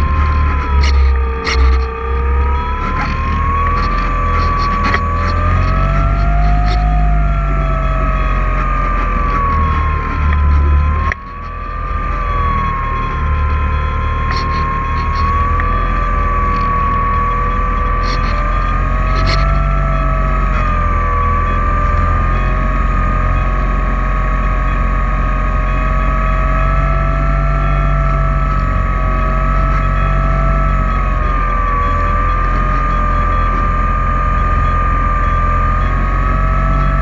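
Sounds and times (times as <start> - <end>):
drone propellers whining: 0.0 - 37.0
low rumble: 0.0 - 37.0.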